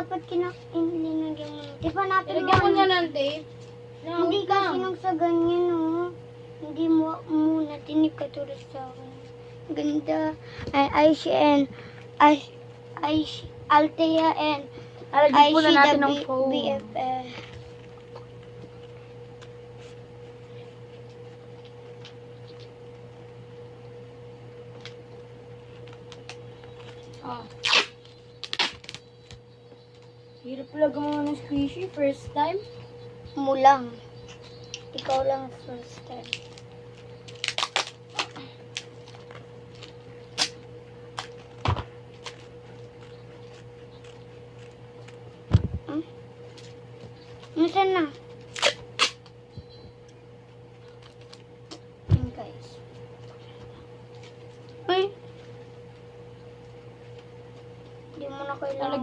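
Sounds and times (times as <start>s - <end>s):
air conditioner hum: 0.0s - 59.0s
thin whine: 0.0s - 59.0s.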